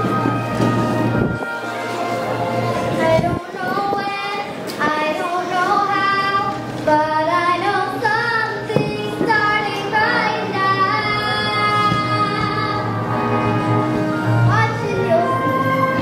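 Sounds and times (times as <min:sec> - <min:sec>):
backing music: 0:00.0 - 0:16.0
young voices singing: 0:02.6 - 0:16.0.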